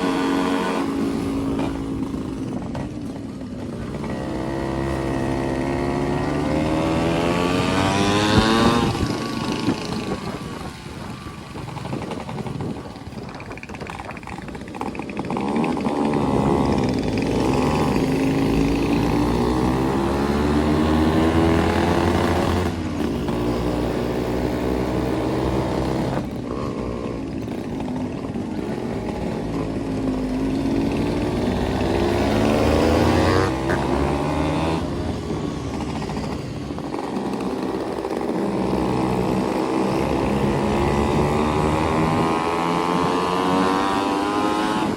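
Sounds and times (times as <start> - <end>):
two-stroke motorcycle engines revving: 0.0 - 44.9.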